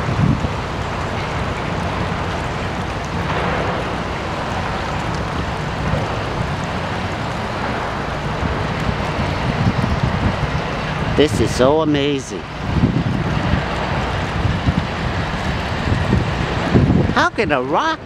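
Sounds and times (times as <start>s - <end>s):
fountain water splashing: 0.0s - 18.0s
wind rumble on microphone: 0.0s - 18.0s.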